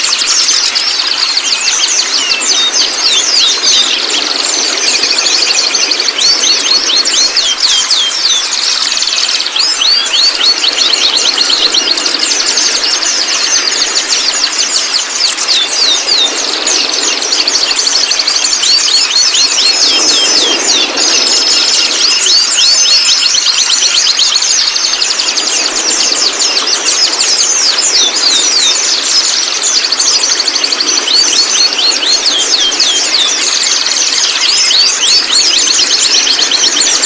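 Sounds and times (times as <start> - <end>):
bird chattering: 0.8 - 37.0.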